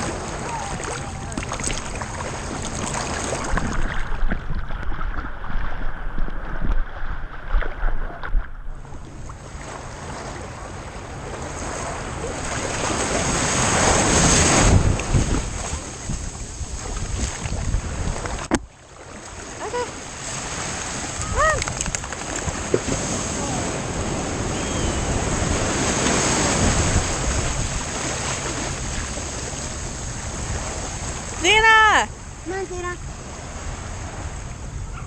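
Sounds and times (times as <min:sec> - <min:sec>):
ocean surf: 0:00.0 - 0:04.1, 0:08.9 - 0:35.0
wind rumbling on microphone: 0:00.0 - 0:18.7, 0:19.4 - 0:35.0.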